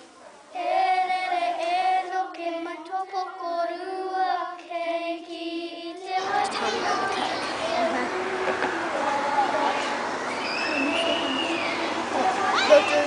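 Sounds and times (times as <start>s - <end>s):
noisy room sound: 0.0s - 13.0s
child singing slow melody: 0.5s - 13.0s.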